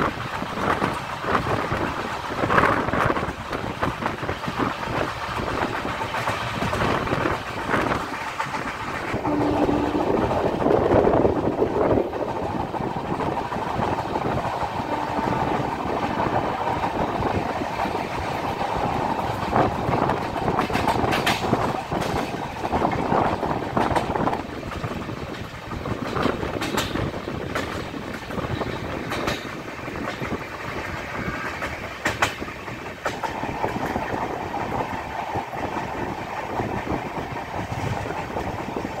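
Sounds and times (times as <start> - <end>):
train rumble: 0.0 - 39.0
wheels clacking over rail joints: 0.0 - 39.0.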